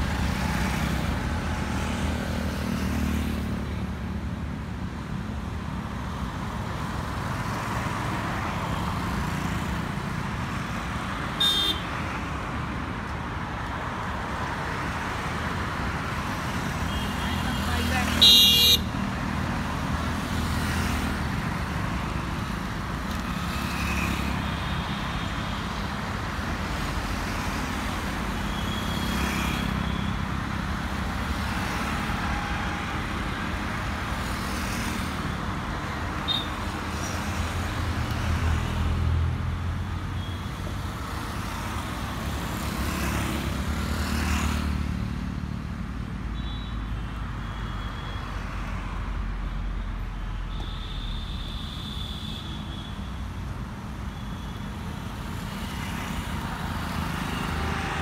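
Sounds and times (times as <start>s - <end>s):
cars and motorcycles passing: 0.0s - 58.0s.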